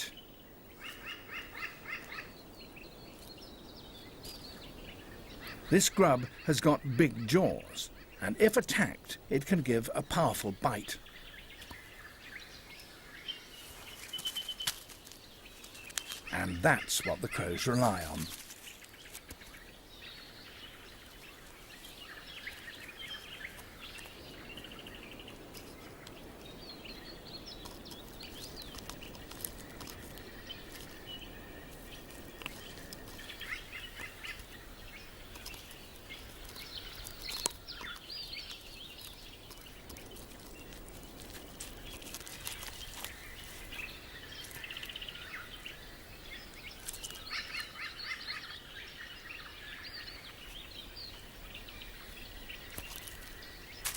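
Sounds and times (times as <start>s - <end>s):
birds chirping and calling: 0.0s - 53.9s.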